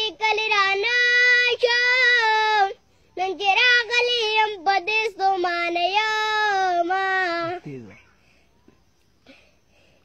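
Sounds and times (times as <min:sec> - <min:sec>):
boy singing unaccompanied: 0:00.0 - 0:08.8.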